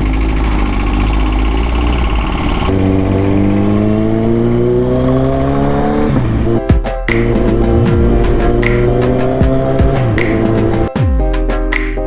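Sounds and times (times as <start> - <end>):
motorcycle engine accelerating: 0.0 - 10.9.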